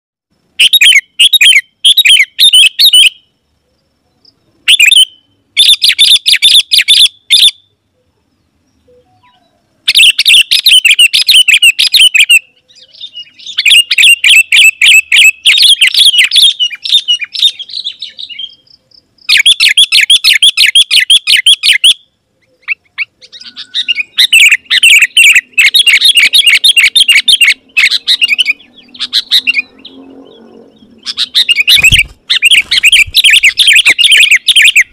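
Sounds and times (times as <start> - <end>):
bird singing chattering notes: 0.6 - 3.3, 4.7 - 7.6, 8.8 - 34.9.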